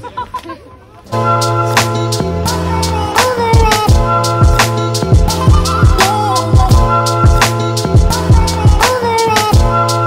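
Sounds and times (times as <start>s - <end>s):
hip hop music: 1.1s - 10.0s.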